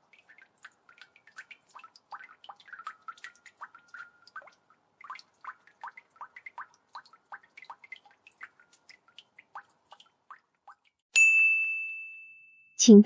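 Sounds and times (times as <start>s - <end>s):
water droplets dripping into water: 0.0s - 11.0s.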